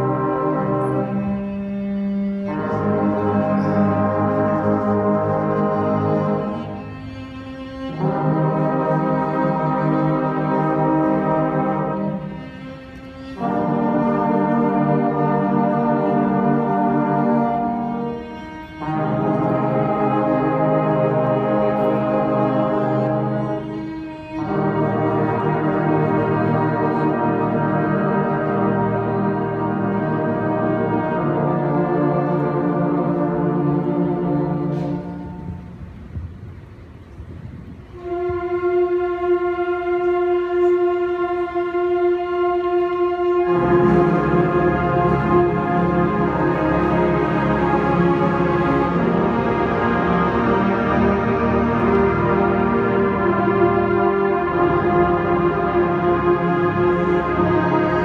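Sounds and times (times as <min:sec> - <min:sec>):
brass section playing held chords: 0:00.0 - 0:36.1, 0:37.9 - 0:58.0.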